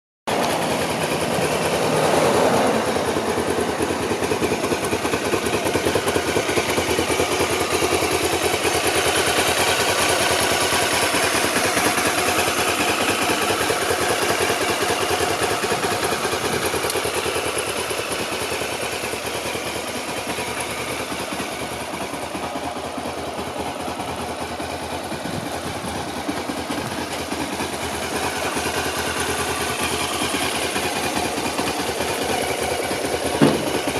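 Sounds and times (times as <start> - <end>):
motorcycle engine idling: 0.3 - 33.9.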